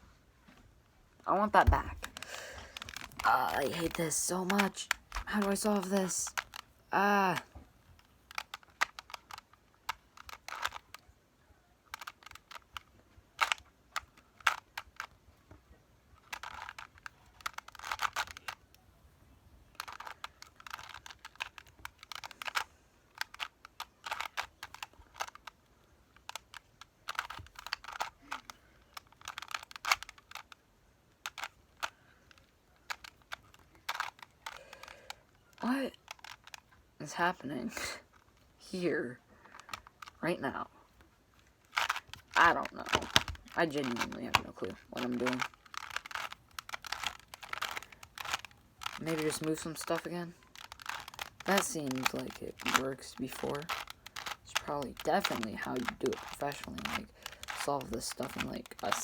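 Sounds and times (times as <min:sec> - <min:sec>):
puzzle cube plastic clicks: 0:01.1 - 0:59.0.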